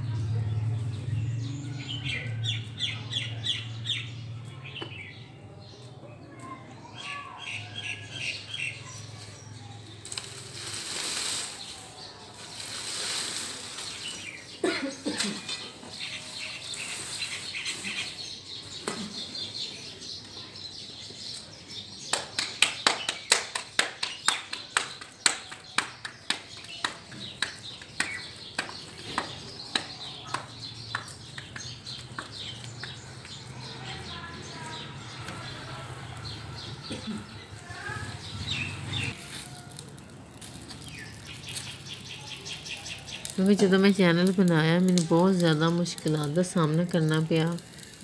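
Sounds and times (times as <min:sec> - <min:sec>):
birds chirping: 0:00.1 - 0:10.8, 0:11.5 - 0:48.0.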